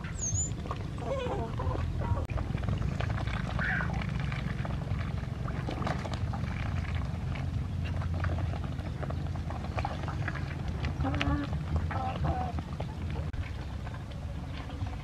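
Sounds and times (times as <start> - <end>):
ducks pecking in wet mash: 0.0 - 15.0
steady low rumble: 0.0 - 15.0.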